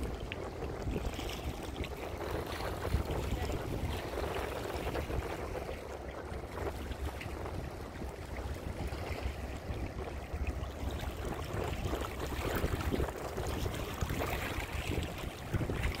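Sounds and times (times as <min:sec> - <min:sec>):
river water lapping at bank: 0:00.0 - 0:16.0
wind buffeting microphone: 0:00.0 - 0:16.0.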